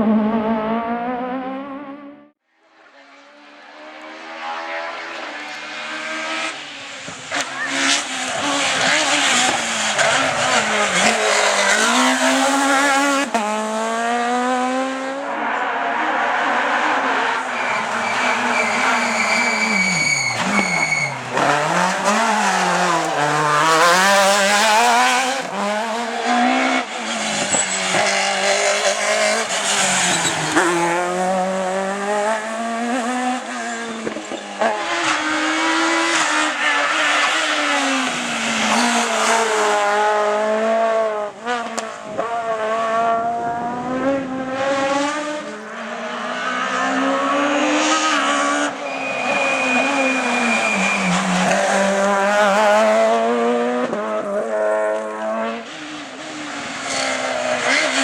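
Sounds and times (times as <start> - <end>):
rally car engines at full throttle: 0.0 - 58.0.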